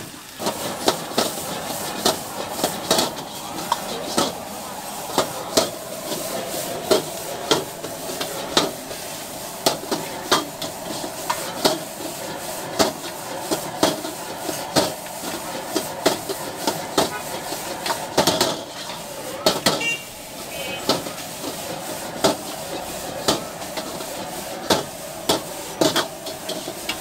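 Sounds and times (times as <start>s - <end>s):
frying sizzle: 0.0s - 27.0s
metal utensils clanking on a wok: 0.4s - 27.0s.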